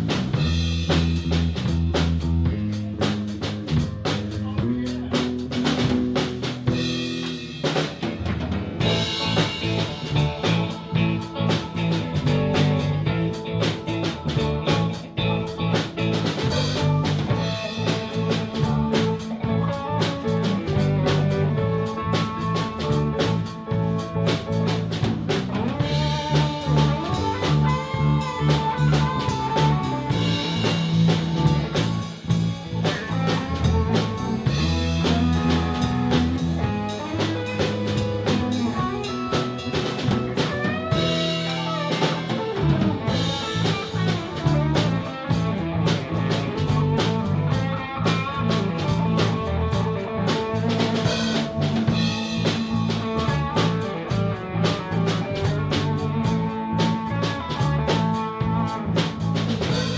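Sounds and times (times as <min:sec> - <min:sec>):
blues guitar bending notes: 0:00.0 - 0:59.9
drum kit beat: 0:00.0 - 0:59.9.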